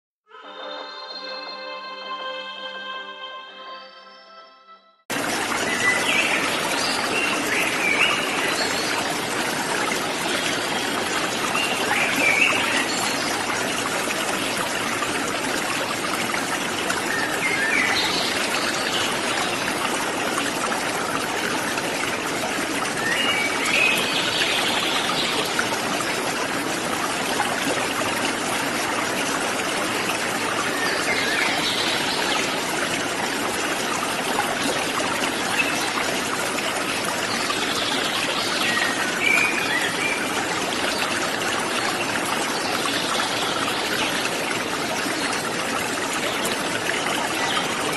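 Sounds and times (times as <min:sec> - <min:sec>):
waterfall and stream rushing: 0:05.1 - 0:47.9.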